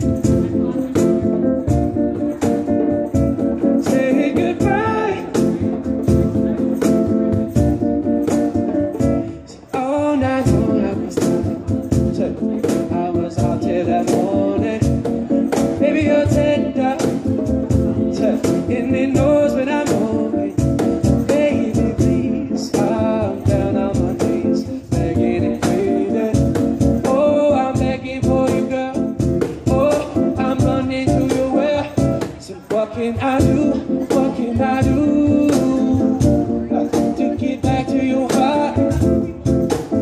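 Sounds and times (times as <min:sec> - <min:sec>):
man singing into a microphone: 0:00.0 - 0:07.3, 0:08.7 - 0:40.0
instrumental accompaniment with beat: 0:00.0 - 0:40.0.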